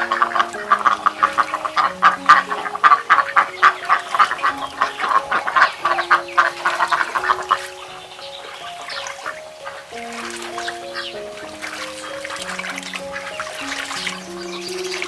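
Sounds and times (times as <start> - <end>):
background music with held notes: 0.0 - 15.0
ducks quacking: 0.0 - 15.0.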